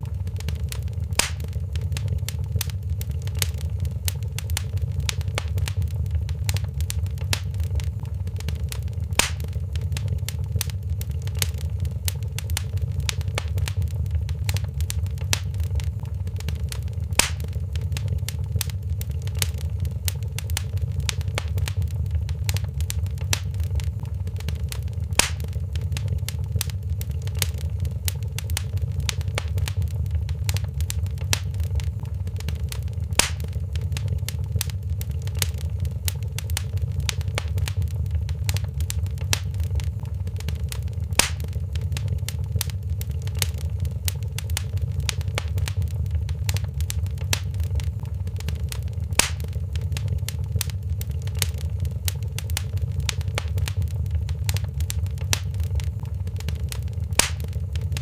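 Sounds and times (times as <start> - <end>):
fire popping: 0.0 - 58.0
low steady rumble: 0.0 - 58.0
wood fire crackling: 0.0 - 58.0.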